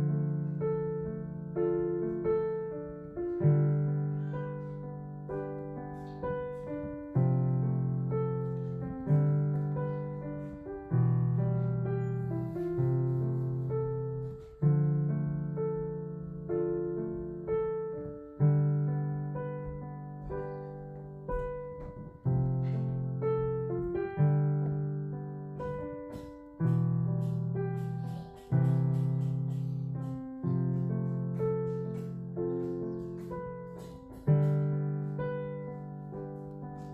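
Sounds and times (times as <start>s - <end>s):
slow piano music: 0.0s - 36.9s.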